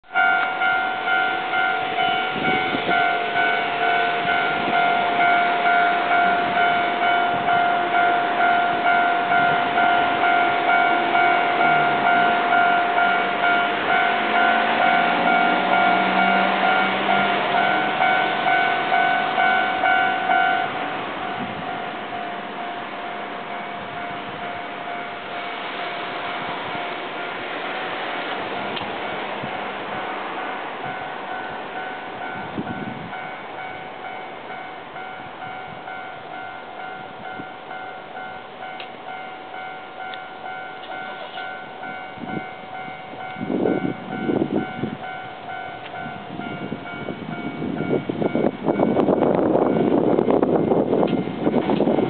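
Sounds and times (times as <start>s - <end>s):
electric train rumbling: 0.0s - 52.0s
level-crossing alarm bell: 0.0s - 52.0s.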